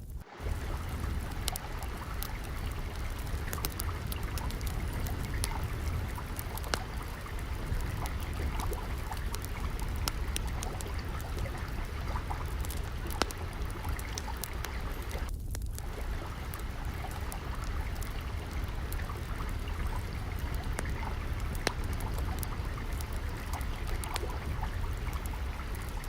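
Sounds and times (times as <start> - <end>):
low rumble: 0.0 - 26.0
wood fire crackling: 0.0 - 26.0
water trickling: 0.2 - 26.0.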